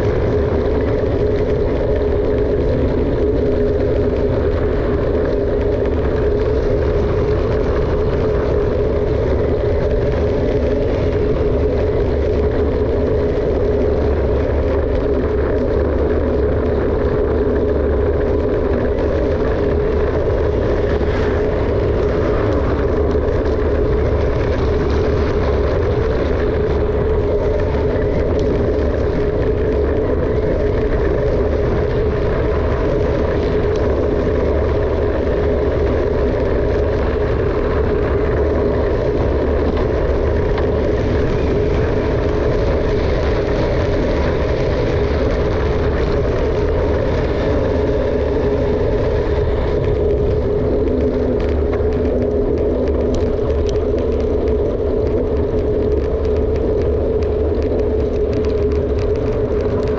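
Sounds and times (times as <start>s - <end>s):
bike tyres rolling: 0.0s - 59.9s
constant hum: 0.0s - 59.9s
wind rushing on microphone: 0.0s - 59.9s.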